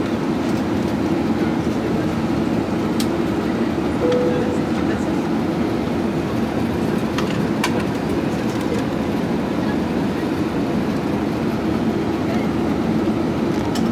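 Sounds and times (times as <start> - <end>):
airplane cabin engine rush: 0.0 - 13.9.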